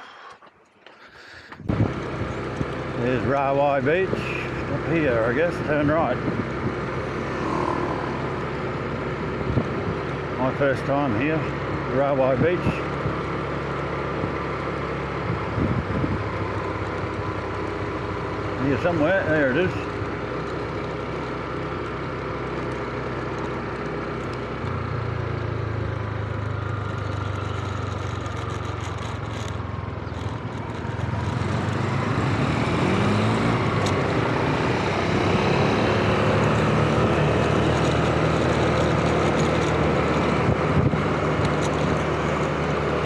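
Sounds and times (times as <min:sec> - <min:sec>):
wind and road noise: 0:00.0 - 0:43.0
scooter engine running: 0:01.7 - 0:43.0.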